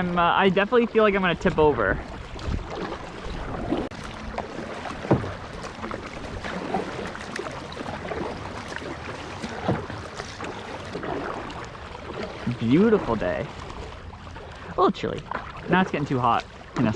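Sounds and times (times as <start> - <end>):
paddle splashing in water: 0.0 - 16.9.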